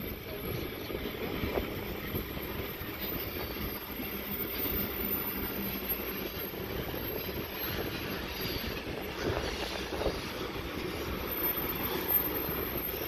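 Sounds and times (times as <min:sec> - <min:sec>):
freight train rolling past: 0:00.0 - 0:13.0.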